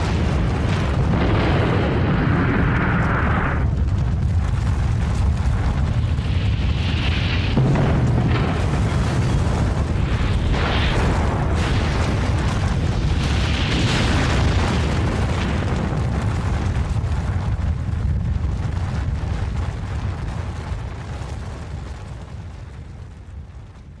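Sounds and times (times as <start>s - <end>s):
deep rumbling explosion roar: 0.0s - 23.9s.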